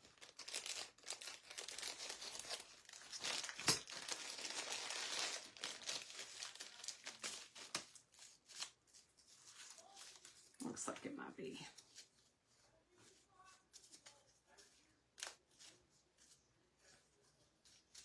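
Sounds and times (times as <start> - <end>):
crinkling and rustling of craft pieces: 0.0 - 18.0.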